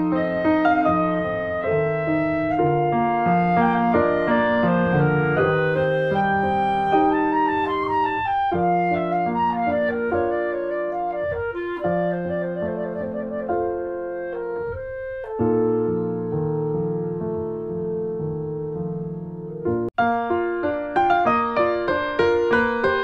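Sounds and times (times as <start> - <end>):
clarinet melody: 0.0 - 23.0
piano: 0.0 - 23.0.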